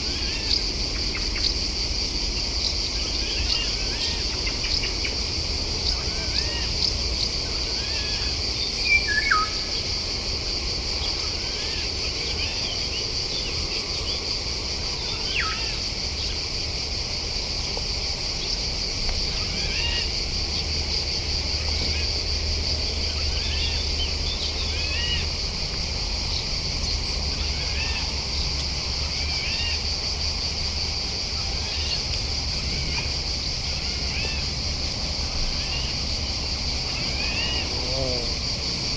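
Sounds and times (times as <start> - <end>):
insect buzz: 0.0 - 38.9.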